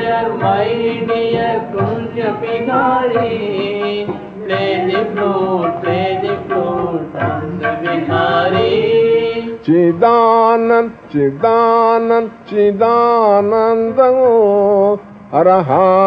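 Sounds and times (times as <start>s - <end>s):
devotional singing: 0.0s - 16.0s.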